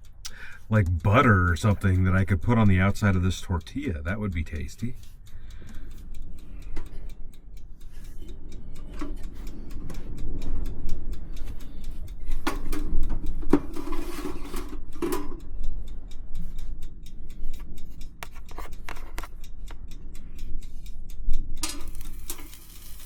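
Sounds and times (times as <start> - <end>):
light irregular ticks: 0.0 - 23.0.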